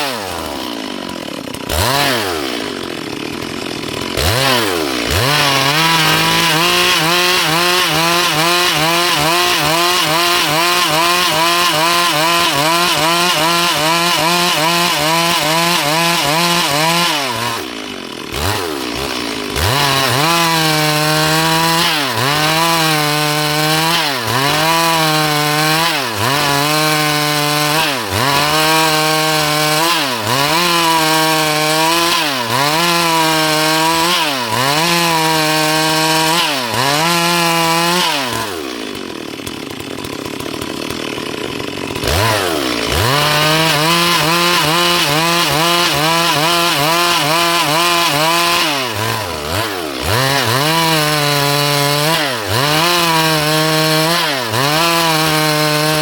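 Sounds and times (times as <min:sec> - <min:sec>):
chainsaw cutting dry wood: 0:00.0 - 0:56.0.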